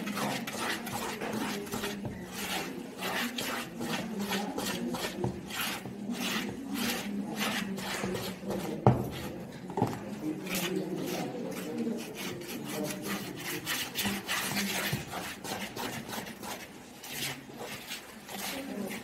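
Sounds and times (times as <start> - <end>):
whisk beating batter in bowl: 0.0 - 19.0.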